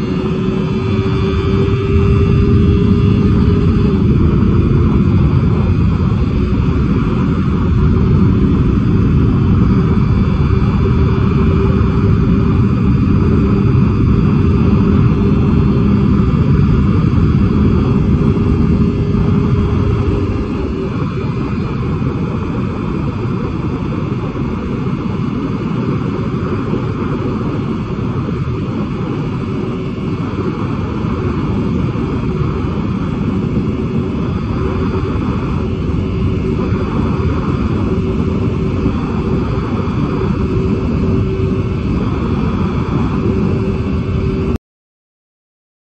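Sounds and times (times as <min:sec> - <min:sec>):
motorcycle engine at high revs: 0:00.0 - 0:44.6
wind rush: 0:00.0 - 0:44.6.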